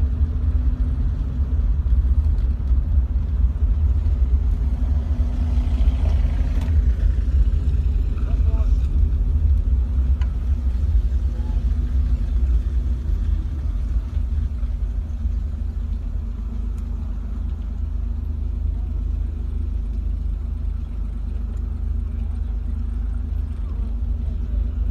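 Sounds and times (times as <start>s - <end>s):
motor vehicle engine hum: 0.0s - 24.9s.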